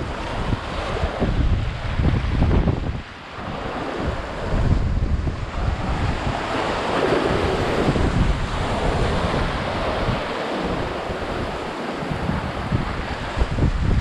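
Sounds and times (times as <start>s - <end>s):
sea waves breaking on rocks: 0.0s - 14.0s
wind rumbling on microphone: 0.0s - 14.0s.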